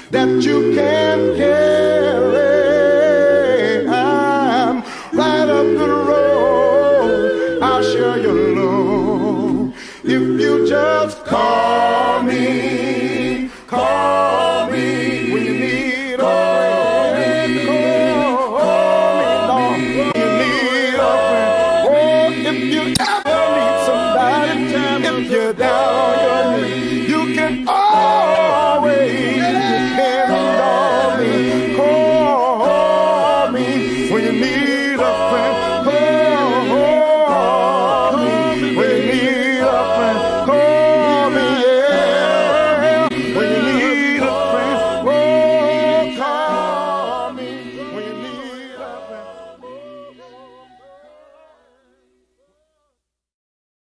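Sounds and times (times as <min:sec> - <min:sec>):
a cappella group singing: 0:00.0 - 0:53.0.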